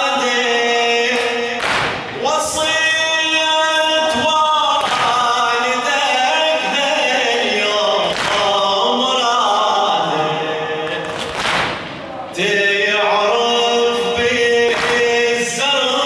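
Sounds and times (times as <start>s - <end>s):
man chanting into a microphone: 0.0s - 11.3s, 12.1s - 16.0s.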